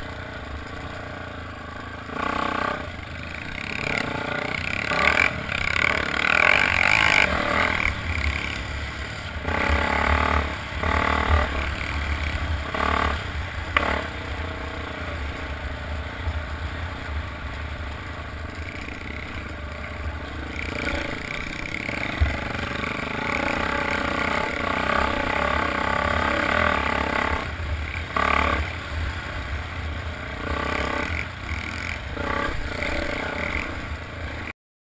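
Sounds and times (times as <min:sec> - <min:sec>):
motorcycle engines revving: 0:00.0 - 0:34.5.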